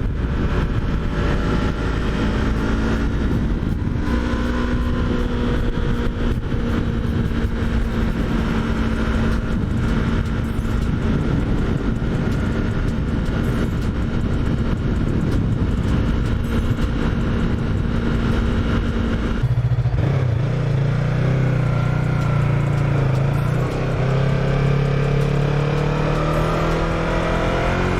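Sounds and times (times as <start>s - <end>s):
motorcycle engine running: 0.0s - 27.9s
wind rush: 0.0s - 27.9s.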